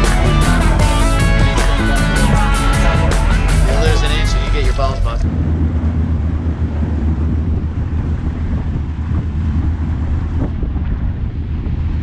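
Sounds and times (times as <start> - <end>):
boat motor rumbling: 0.0 - 12.0
wind buffeting microphone: 0.0 - 12.0.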